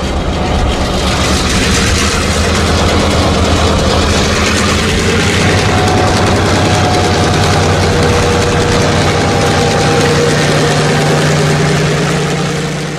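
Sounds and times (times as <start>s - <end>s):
diesel locomotive engine idling: 0.0s - 12.9s.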